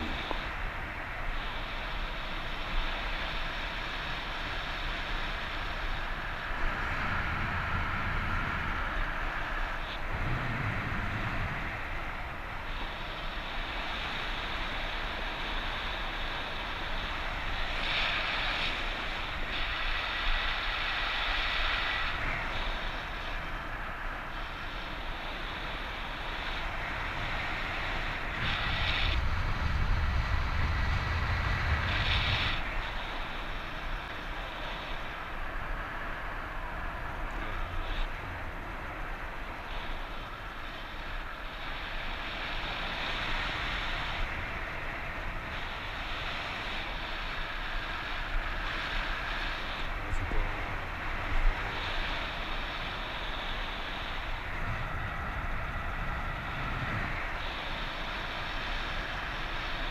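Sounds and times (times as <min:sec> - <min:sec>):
strong wind on microphone: 0:00.0 - 0:59.9.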